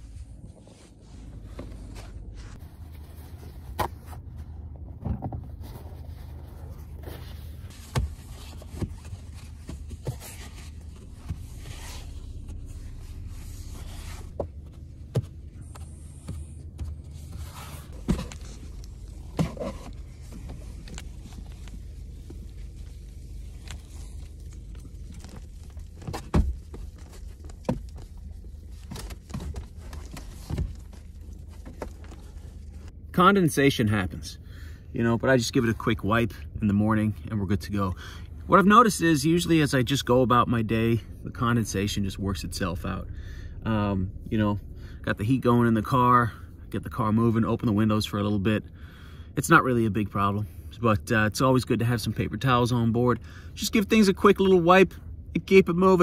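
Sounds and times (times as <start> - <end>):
car engine humming: 0.0 - 56.0.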